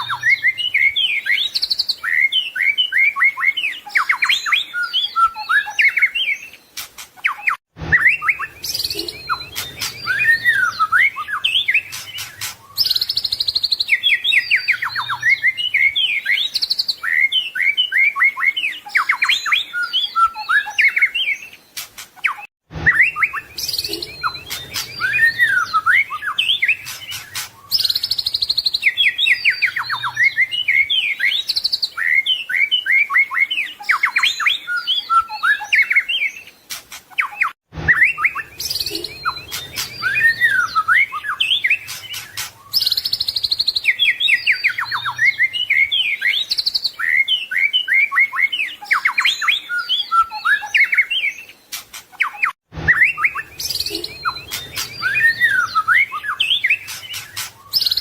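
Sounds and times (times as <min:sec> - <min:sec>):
bird singing whistled trills: 0:00.0 - 0:58.0.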